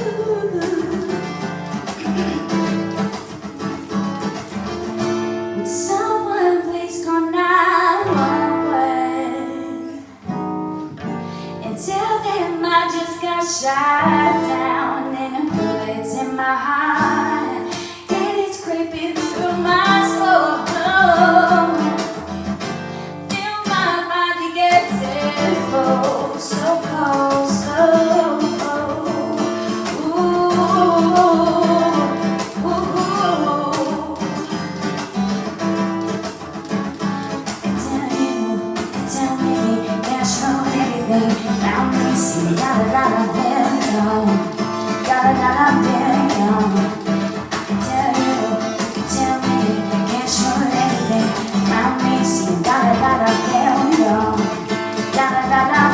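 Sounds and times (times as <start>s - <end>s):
person singing: 0.0s - 1.6s, 5.6s - 10.2s, 11.6s - 22.3s, 23.2s - 34.8s, 37.5s - 55.9s
acoustic guitar strumming: 0.0s - 55.9s.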